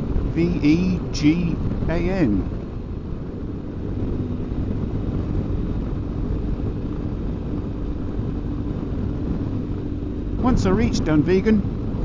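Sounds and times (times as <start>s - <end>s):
motorcycle engine humming: 0.0s - 12.0s
road and wind noise: 0.0s - 12.0s.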